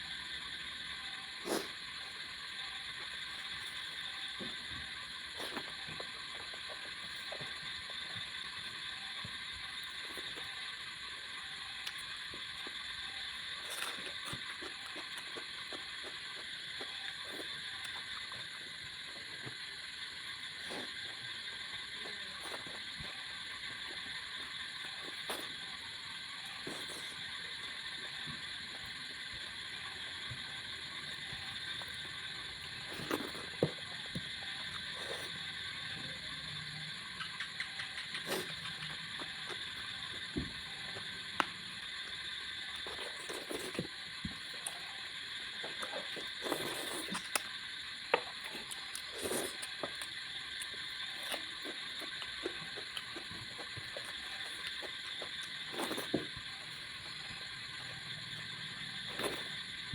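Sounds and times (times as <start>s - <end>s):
person chewing food: 2.8s - 10.8s, 11.8s - 35.7s, 37.2s - 59.9s.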